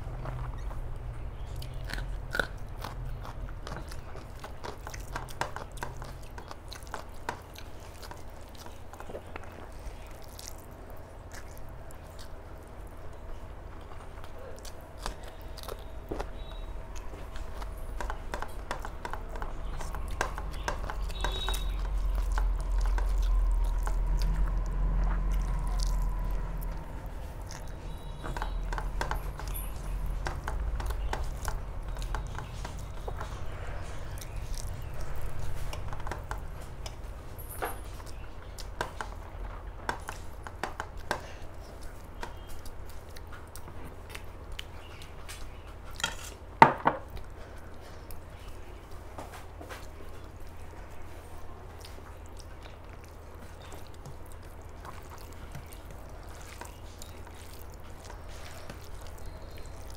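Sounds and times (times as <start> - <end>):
close chewing with wet clicks: 0.0 - 59.9.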